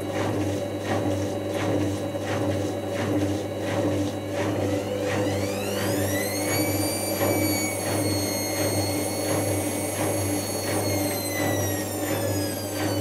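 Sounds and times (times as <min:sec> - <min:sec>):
washing machine motor whine: 0:00.0 - 0:13.0.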